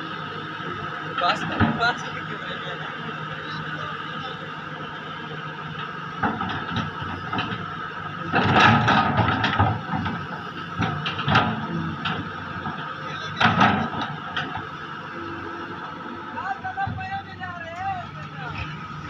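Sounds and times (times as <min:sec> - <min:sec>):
excavator running: 0:00.0 - 0:19.0.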